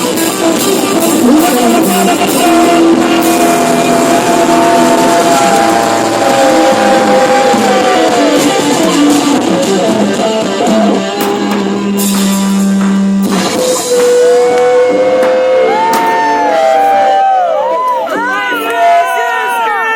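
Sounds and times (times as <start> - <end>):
drum kit: 0.0 - 18.0
rock music: 0.0 - 18.9
electric guitar: 0.0 - 19.9.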